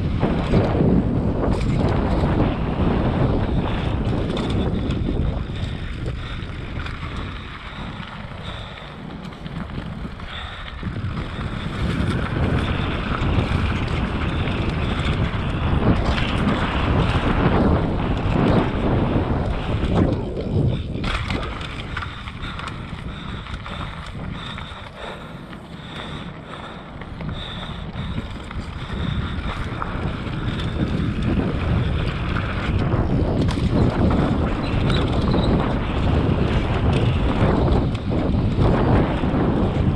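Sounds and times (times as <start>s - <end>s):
bike rattling: 0.0s - 39.9s
bike tyres crunching on dirt: 0.0s - 39.9s
wind buffeting microphone: 0.0s - 39.9s.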